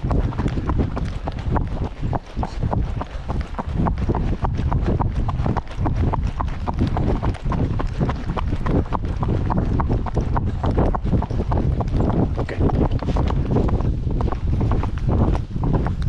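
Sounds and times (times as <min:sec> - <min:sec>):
horse hooves clip-clopping: 0:00.0 - 0:16.0
wind rumbling on microphone: 0:00.0 - 0:16.0.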